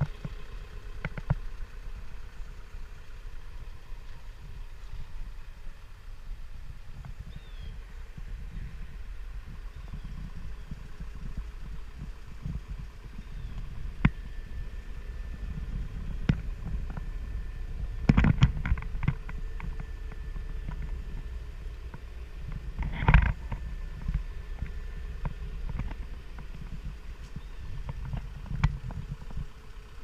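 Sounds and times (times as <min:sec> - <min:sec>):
diesel engine low rumble: 0:00.0 - 0:30.0.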